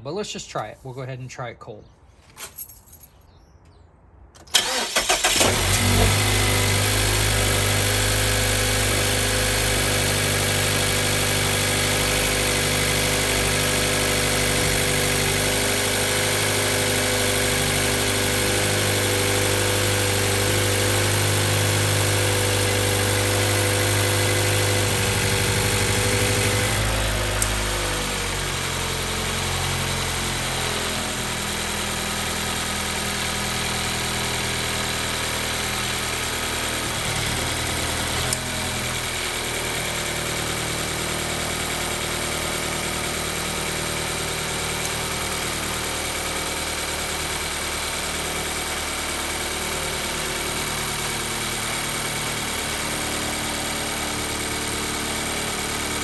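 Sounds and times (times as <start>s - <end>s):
car engine cranking and starting: 4.4s - 56.0s
car engine idling: 4.4s - 56.0s.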